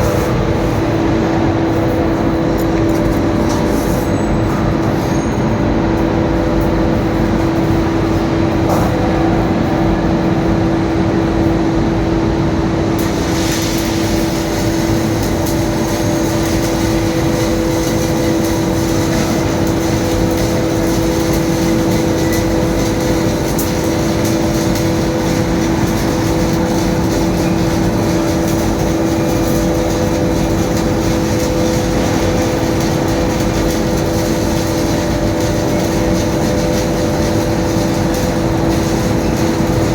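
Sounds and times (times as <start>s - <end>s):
heavy industrial machinery hum: 0.0s - 39.9s.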